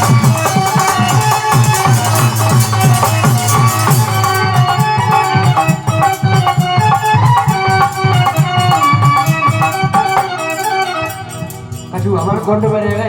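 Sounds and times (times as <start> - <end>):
held melody line: 0.0 - 13.0
shaken percussion: 0.0 - 13.0
steady drum beat: 0.0 - 13.0.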